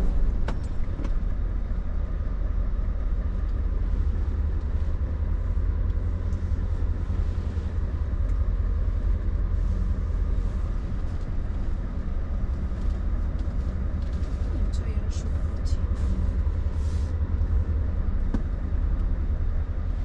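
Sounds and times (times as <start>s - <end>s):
lorry diesel engine rumbling: 0.0s - 20.0s.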